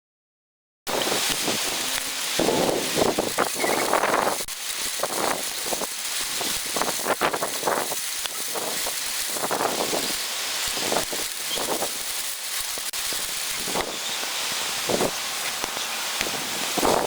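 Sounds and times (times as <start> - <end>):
heavy rain hissing: 0.9 - 17.0
wind gusts buffeting microphone: 0.9 - 17.0.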